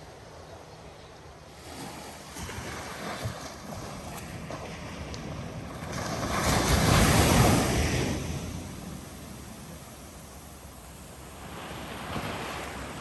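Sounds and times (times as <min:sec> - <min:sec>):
ocean waves washing in: 0:01.5 - 0:13.0.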